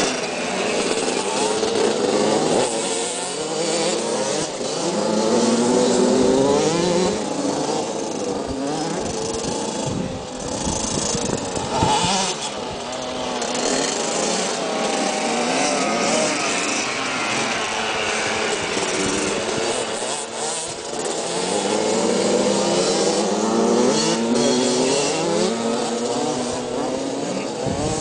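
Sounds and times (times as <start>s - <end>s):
motocross bikes revving: 0.0s - 28.0s.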